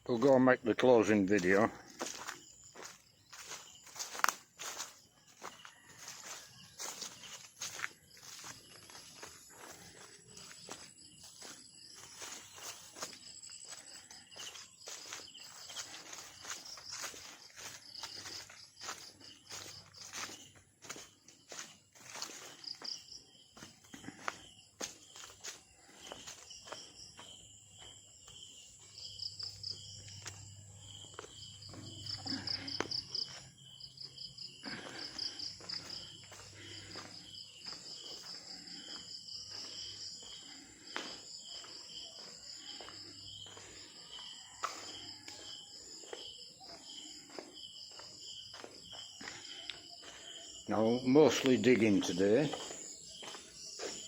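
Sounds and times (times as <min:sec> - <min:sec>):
insects chirping in pulsed trills: 0:00.0 - 0:54.0.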